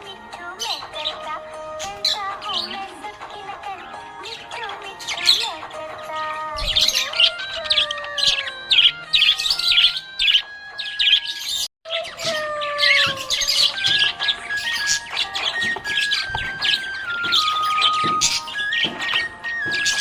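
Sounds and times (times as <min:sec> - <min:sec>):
background music: 0:00.0 - 0:20.0
budgerigars chirping: 0:00.2 - 0:03.0, 0:03.7 - 0:20.0.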